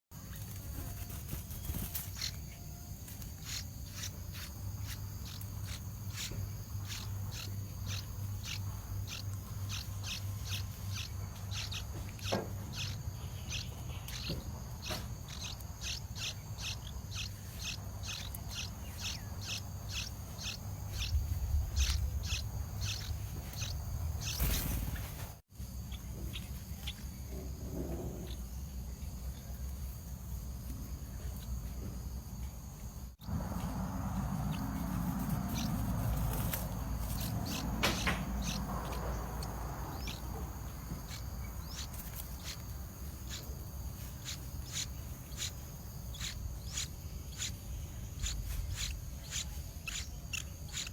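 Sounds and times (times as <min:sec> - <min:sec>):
high insect drone: 0:00.2 - 0:50.9.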